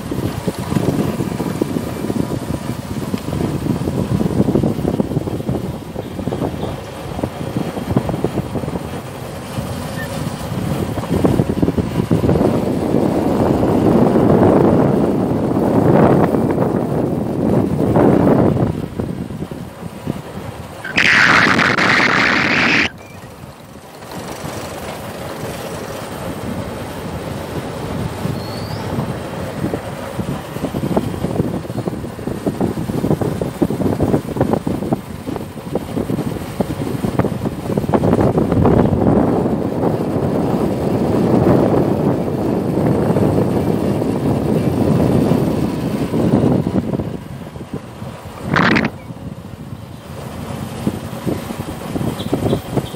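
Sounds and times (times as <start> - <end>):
wind on microphone: 0.0 - 23.3, 26.1 - 52.9
motorbike engine and road noise: 0.0 - 52.9.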